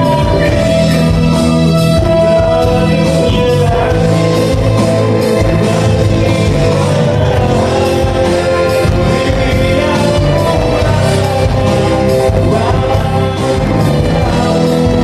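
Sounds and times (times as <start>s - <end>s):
live rock band playing: 0.0s - 15.0s
person singing: 0.0s - 15.0s
steady drum beat: 0.0s - 15.0s.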